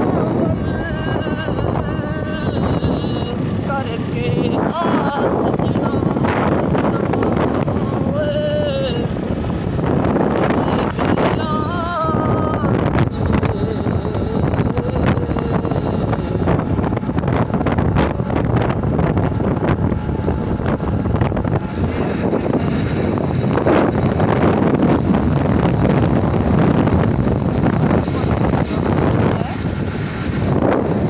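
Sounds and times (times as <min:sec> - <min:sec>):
loud rumbling noise: 0:00.0 - 0:31.0
wind buffeting microphone: 0:00.0 - 0:31.0.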